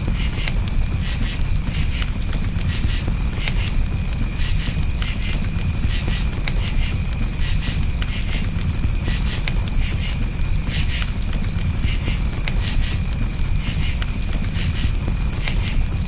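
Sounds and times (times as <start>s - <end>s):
campfire crackling: 0.0s - 16.0s
crickets chirping: 0.0s - 16.0s.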